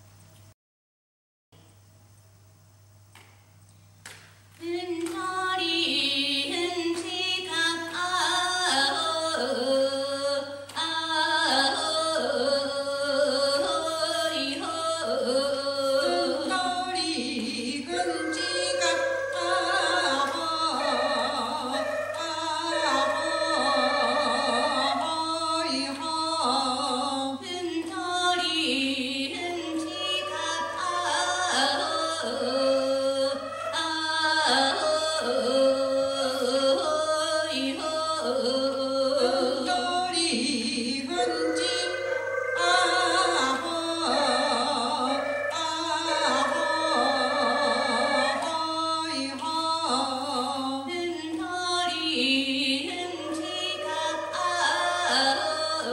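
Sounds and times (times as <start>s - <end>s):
women singing: 4.6s - 55.9s.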